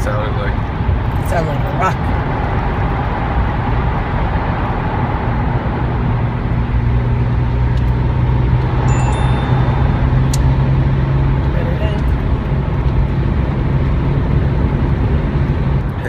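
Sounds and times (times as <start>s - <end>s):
engine running: 0.0s - 16.0s
low hum: 1.1s - 16.0s.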